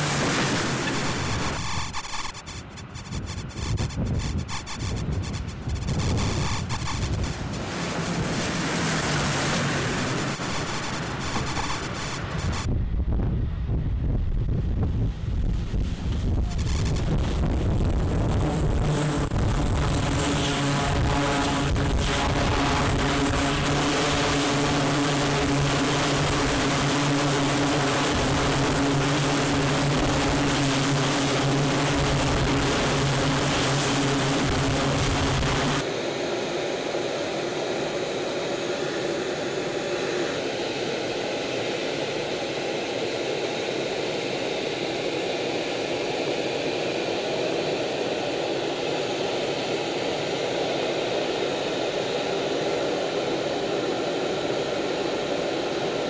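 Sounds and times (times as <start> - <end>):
jet engine and air rush: 0.0 - 56.0
turboprop aircraft engines droning: 0.0 - 56.0.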